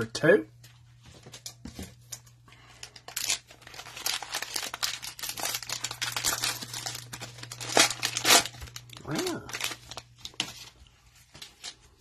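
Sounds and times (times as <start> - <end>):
plastic wrapper tearing and crinkling: 2.1 - 12.0.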